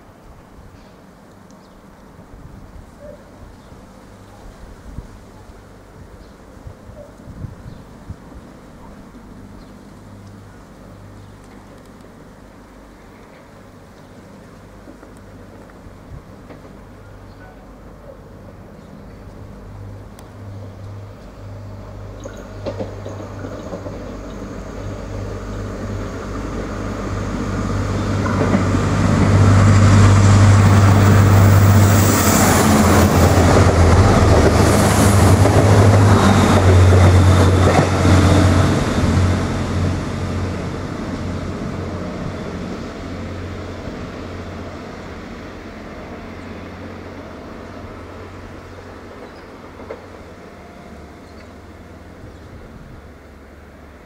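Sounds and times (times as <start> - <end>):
commuter train passing: 0.0 - 54.0.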